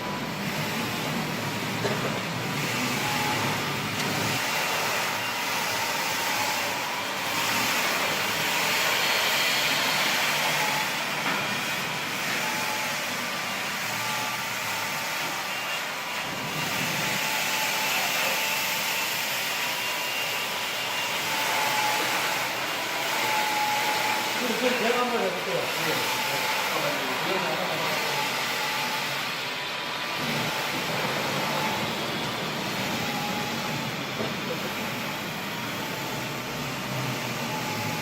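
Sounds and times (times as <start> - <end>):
floor-cleaning machine motor drone: 0.0 - 38.0.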